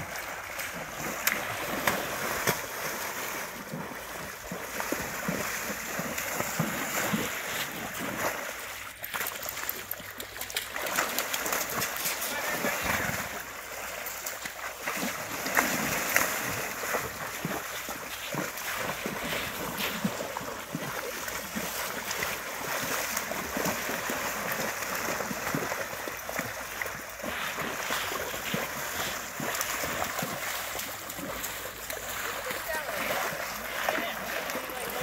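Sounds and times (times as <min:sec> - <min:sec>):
rushing water: 0:00.0 - 0:35.0
splashing wading through water: 0:00.0 - 0:35.0.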